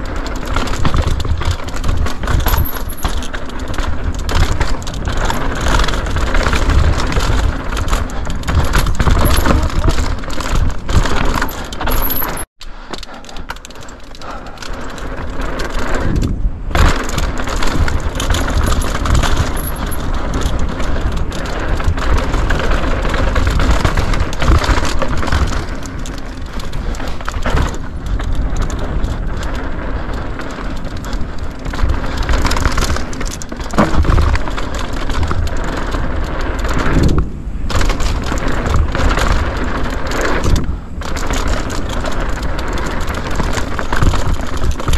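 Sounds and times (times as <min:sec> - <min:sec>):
wind buffeting microphone: 0:00.0 - 0:12.5, 0:14.2 - 0:44.9
bike rattling over rough ground: 0:00.0 - 0:44.9
bike tyres roaring on dirt: 0:00.0 - 0:44.9.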